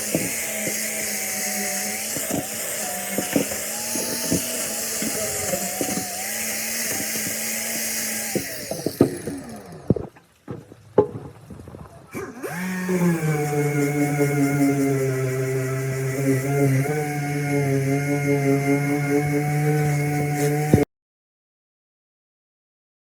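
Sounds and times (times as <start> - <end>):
small motor running: 0.0 - 10.1, 12.1 - 20.9.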